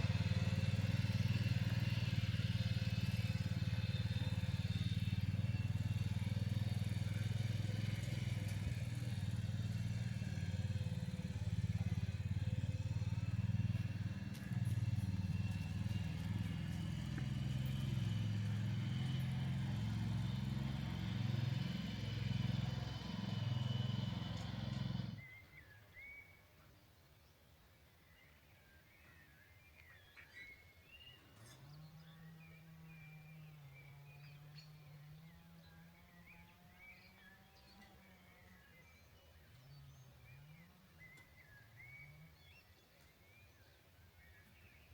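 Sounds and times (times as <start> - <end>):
engine revving: 0.0 - 25.4, 31.4 - 42.5
bird chirp: 0.0 - 44.9.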